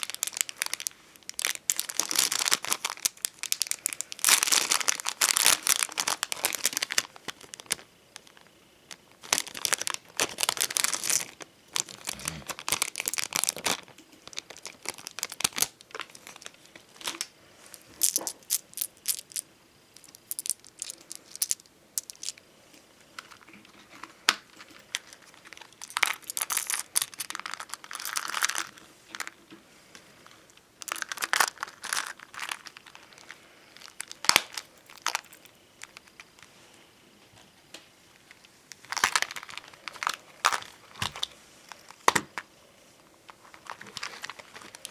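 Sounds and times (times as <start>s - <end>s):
stickers crinkling and peeling: 0.0s - 19.4s, 20.0s - 22.4s, 23.1s - 36.6s, 38.2s - 42.4s, 43.3s - 44.9s.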